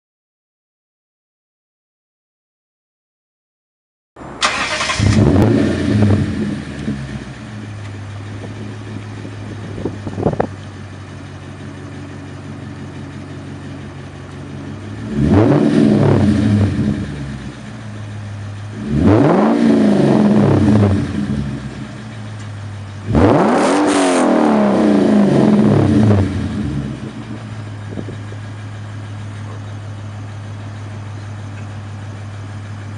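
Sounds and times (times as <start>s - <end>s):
car engine revving and idling: 4.2s - 32.9s.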